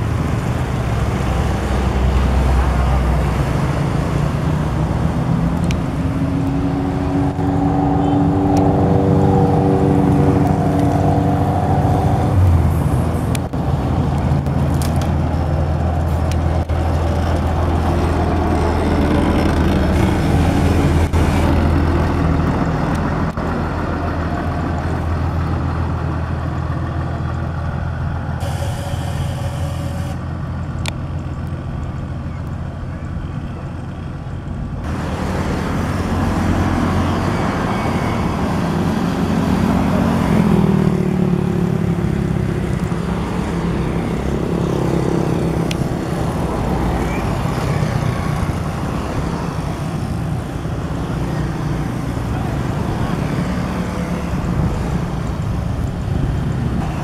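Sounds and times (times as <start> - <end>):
passing motorcycles and cars: 0.0 - 57.0
road roller diesel engine: 0.0 - 57.0.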